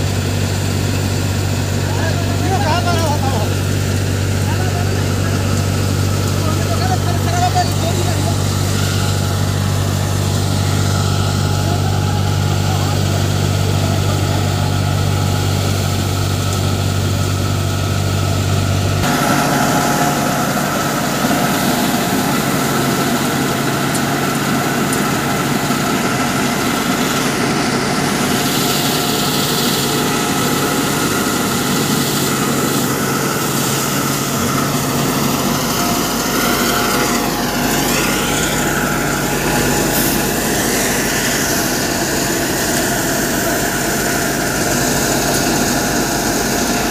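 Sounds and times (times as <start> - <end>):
thresher running: 0.0 - 46.9
tractor diesel engine running: 0.0 - 46.9.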